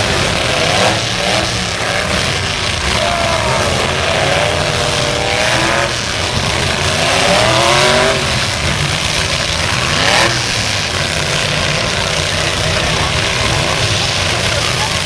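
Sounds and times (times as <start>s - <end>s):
din of other engines: 0.0s - 15.0s
pickup truck engines revving hard: 0.0s - 15.0s.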